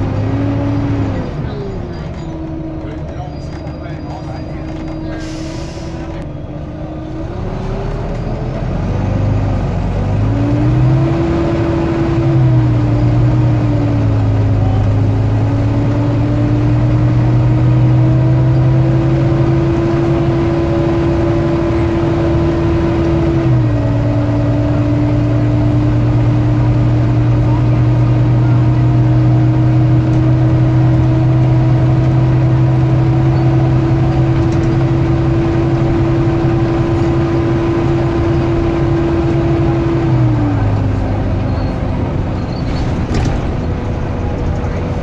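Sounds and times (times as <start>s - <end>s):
bus diesel engine accelerating: 0.0s - 45.0s
high engine whine: 0.0s - 45.0s.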